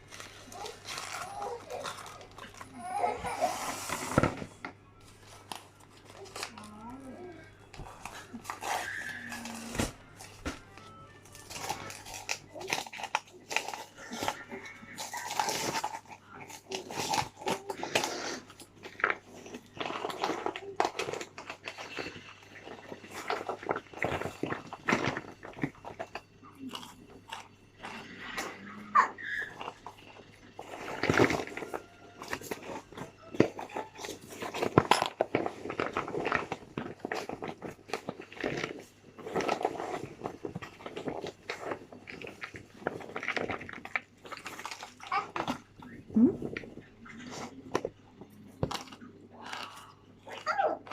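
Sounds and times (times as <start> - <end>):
person chewing with crunches: 0.0 - 50.9.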